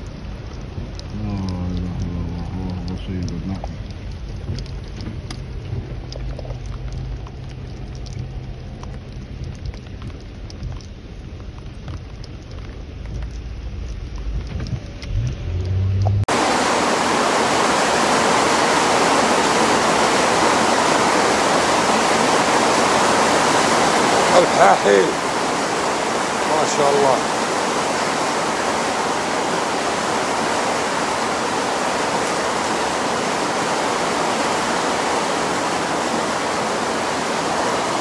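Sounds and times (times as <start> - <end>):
rain ticking on a surface: 0.0 - 38.0
rainwater rushing: 0.0 - 38.0.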